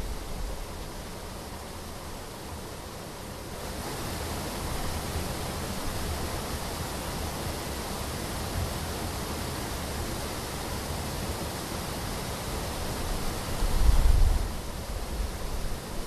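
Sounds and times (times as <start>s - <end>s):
rushing water hiss: 0.0s - 16.0s.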